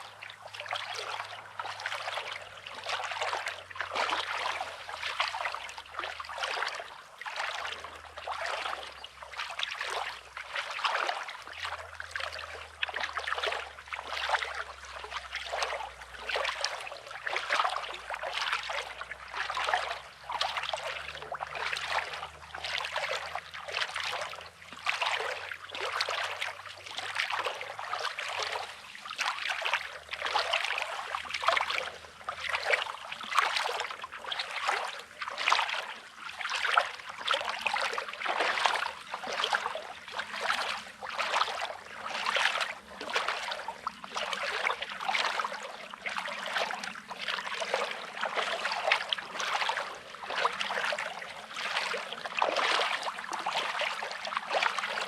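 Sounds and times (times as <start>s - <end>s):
small waves washing on shore: 0.0s - 55.0s.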